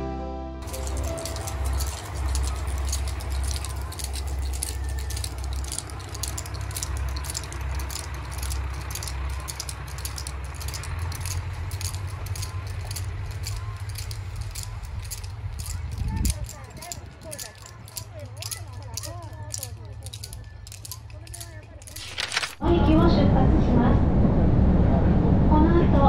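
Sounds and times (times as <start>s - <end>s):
fast continuous rattling: 0.6s - 22.6s
diesel train engine rumble: 0.6s - 26.0s.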